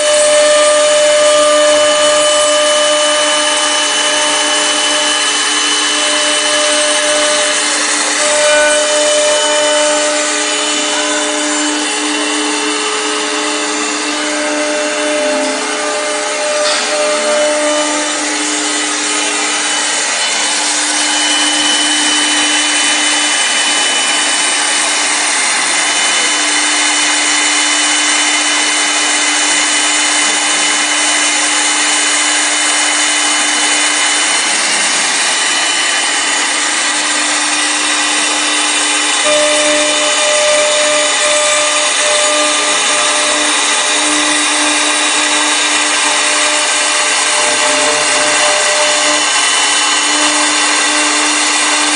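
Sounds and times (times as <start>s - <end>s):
high motor whine: 0.0s - 51.9s
lathe cutting wood: 0.0s - 51.9s.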